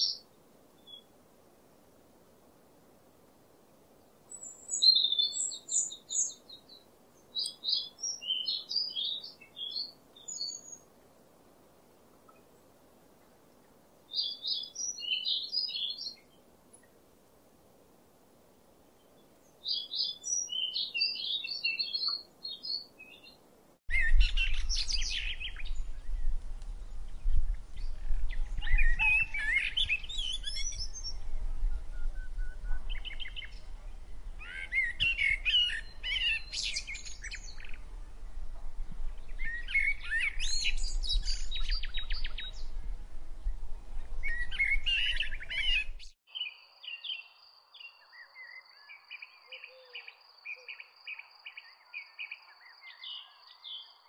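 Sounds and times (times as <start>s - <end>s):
songbirds singing: 0.0s - 1.1s, 4.0s - 11.0s, 12.2s - 17.0s, 18.6s - 54.0s.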